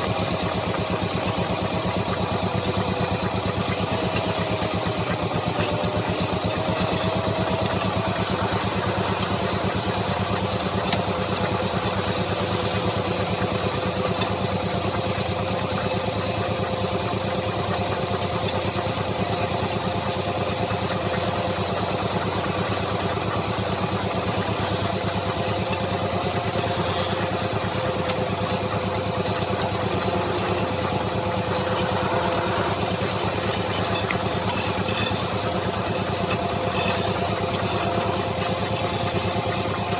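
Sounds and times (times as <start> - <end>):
wood lathe motor humming: 0.0 - 39.9.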